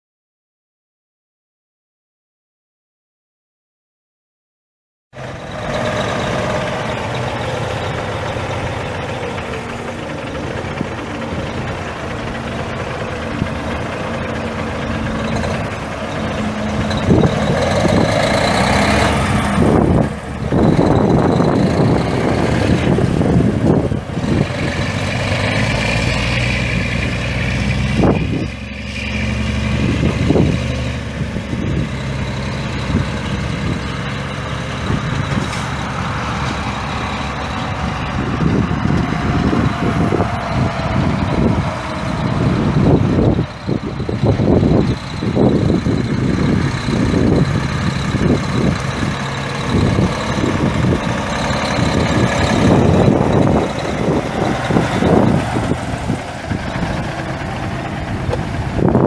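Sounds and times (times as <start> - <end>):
truck diesel engine running: 5.2 - 59.0.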